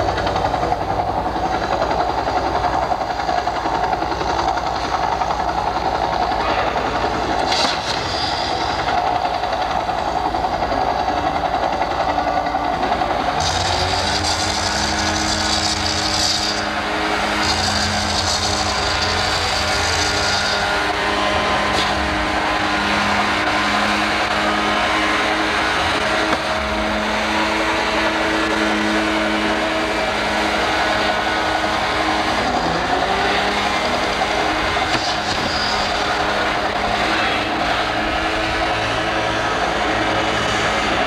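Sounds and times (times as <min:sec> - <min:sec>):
motorboat engine running: 0:00.0 - 0:41.0.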